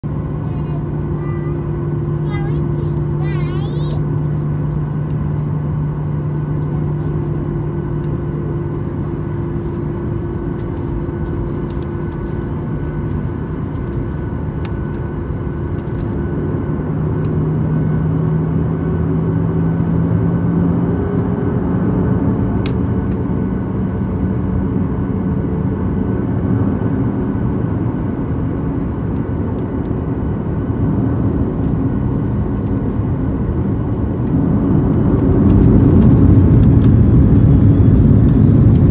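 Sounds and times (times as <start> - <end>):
jet engines hum and whine: 0.0 - 38.9.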